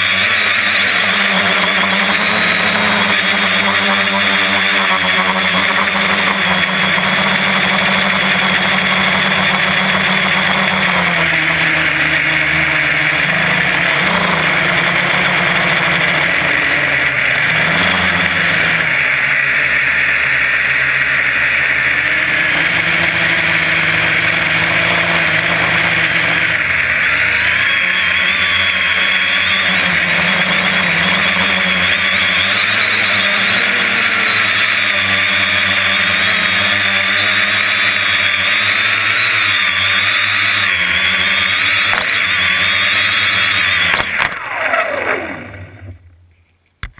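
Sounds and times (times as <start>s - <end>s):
quadcopter motors buzzing: 0.0s - 46.1s.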